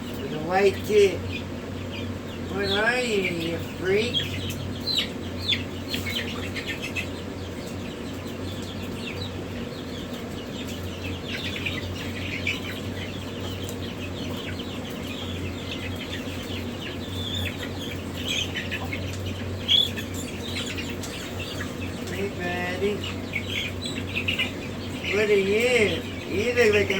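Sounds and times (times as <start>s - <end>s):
chicks peeping: 0.0s - 26.9s
steady low hum: 0.0s - 26.9s.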